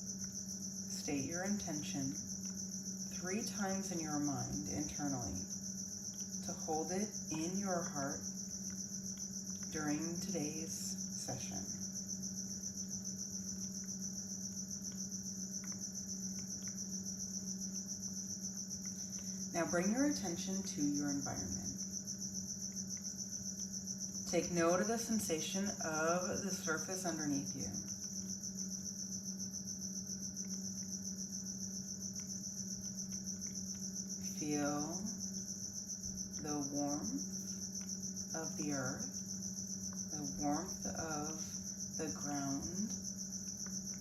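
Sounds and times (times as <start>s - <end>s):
crickets chirping: 0.0s - 44.0s
low steady hum: 0.0s - 44.0s.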